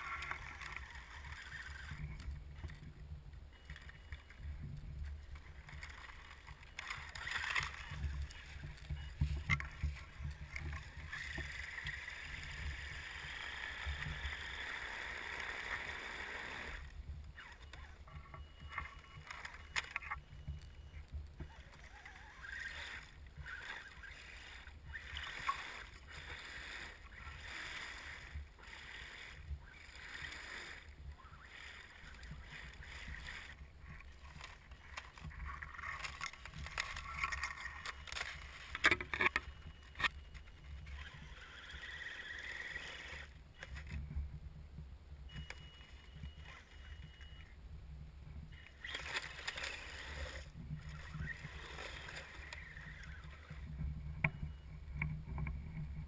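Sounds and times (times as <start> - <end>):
electric motor whine: 0.0 - 44.3, 48.5 - 56.0.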